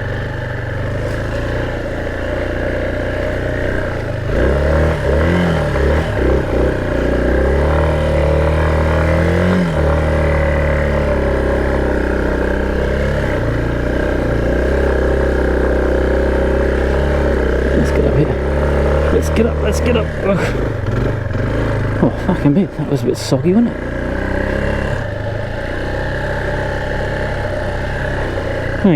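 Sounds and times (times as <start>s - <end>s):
motorbike engine revving: 0.0s - 28.9s.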